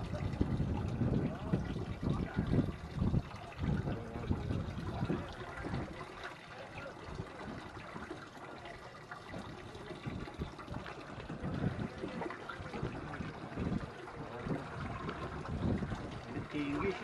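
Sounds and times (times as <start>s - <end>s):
seawater sloshing and splashing: 0.0s - 17.0s.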